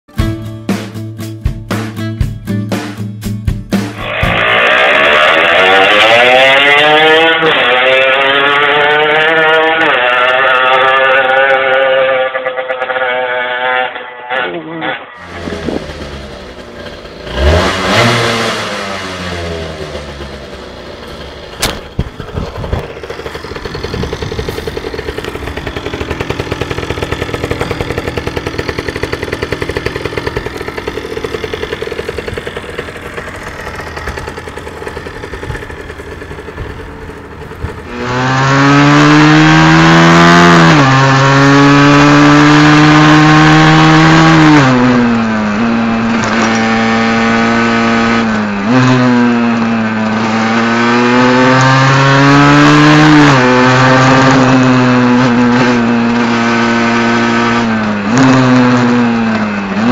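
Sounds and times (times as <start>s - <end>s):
motorcycle engine revving and idling: 3.5s - 59.9s.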